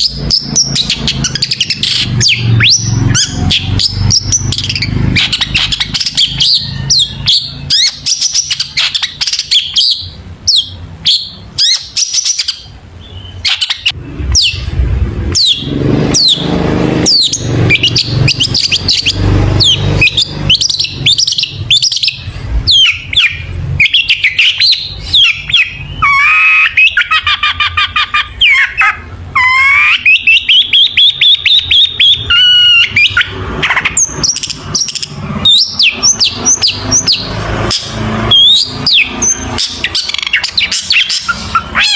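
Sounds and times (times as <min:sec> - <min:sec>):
shrike singing: 0:00.0 - 0:41.9.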